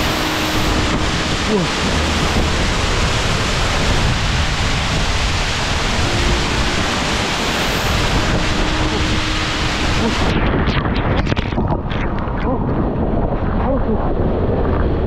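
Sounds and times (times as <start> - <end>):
waterfall pouring: 0.0 - 12.6.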